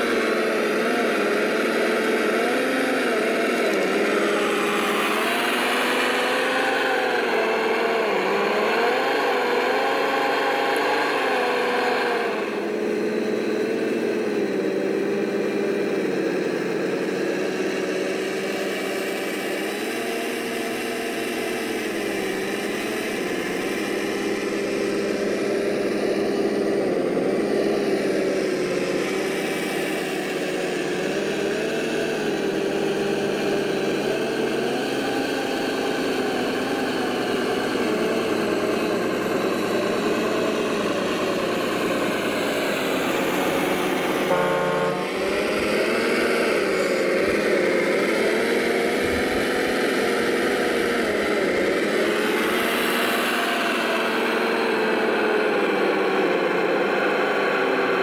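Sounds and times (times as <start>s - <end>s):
rc vehicle motor humming: 0.0s - 58.0s.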